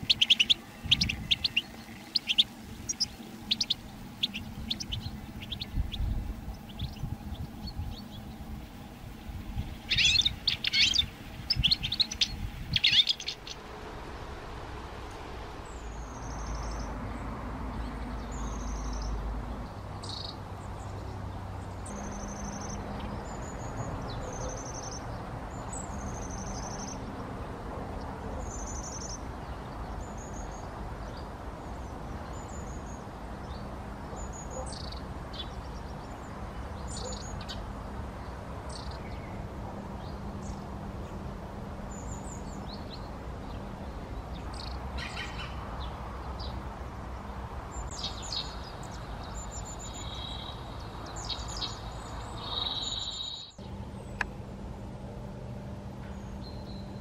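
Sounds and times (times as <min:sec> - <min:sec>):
tits calling: 0:00.0 - 0:17.2, 0:17.8 - 0:27.1, 0:27.9 - 0:54.5.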